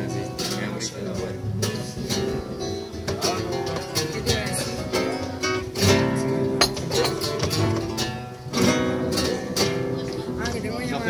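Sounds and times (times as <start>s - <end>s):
flamenco guitar: 0.0s - 11.0s.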